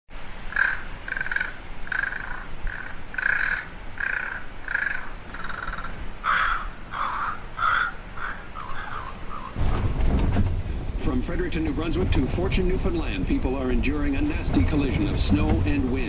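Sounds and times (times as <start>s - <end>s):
bird calling: 0.5s - 16.0s.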